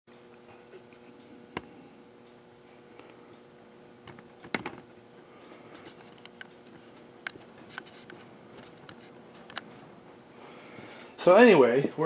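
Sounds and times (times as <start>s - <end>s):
faint room hum: 0.1s - 12.0s.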